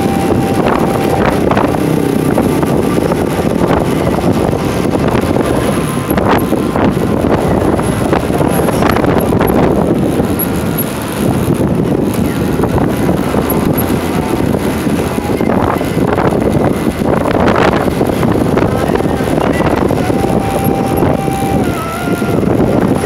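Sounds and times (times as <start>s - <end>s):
motorcycle engine: 0.0s - 23.0s
wind rushing on microphone: 0.0s - 23.0s.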